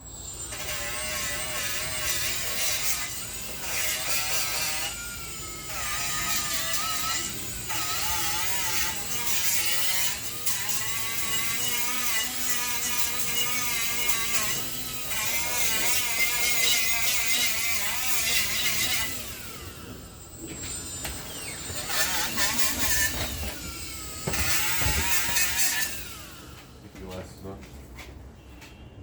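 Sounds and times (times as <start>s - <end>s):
power tool whining against metal: 0.0s - 26.8s.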